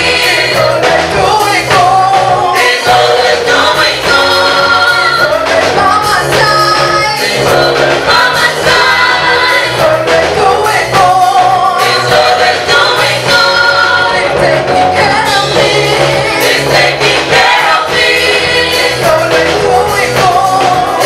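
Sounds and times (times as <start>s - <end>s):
choir singing gospel: 0.0s - 21.0s
musical accompaniment: 0.0s - 21.0s.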